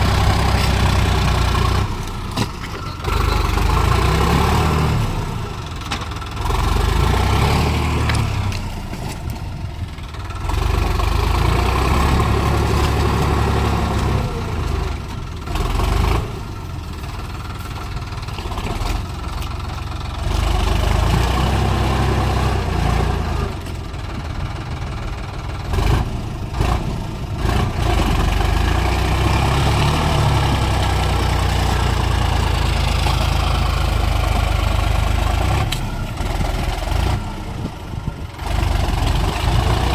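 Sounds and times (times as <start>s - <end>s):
tractor diesel engine labouring: 0.0s - 39.9s.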